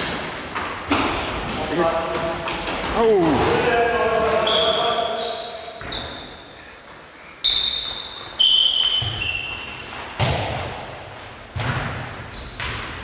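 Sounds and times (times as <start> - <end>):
football hits echoing in hall: 0.0 - 6.7, 7.5 - 13.0.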